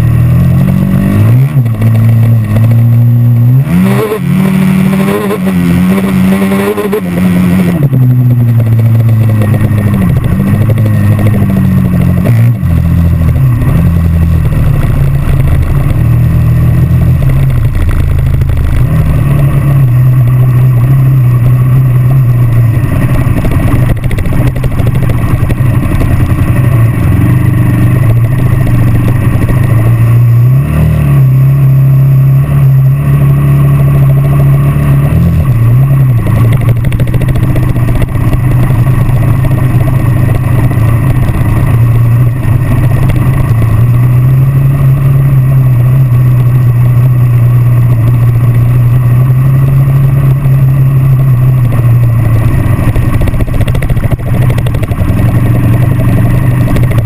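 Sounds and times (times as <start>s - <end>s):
dirt bike engine running hard: 0.0s - 57.0s.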